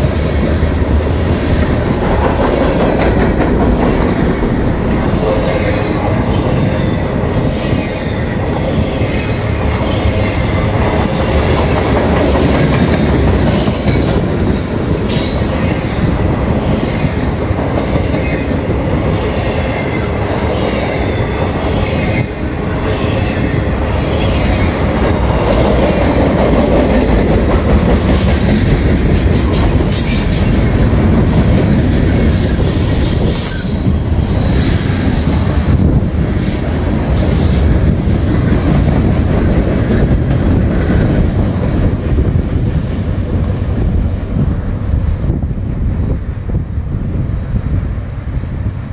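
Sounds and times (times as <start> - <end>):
steel wheels rumbling on rail: 0.0 - 48.9.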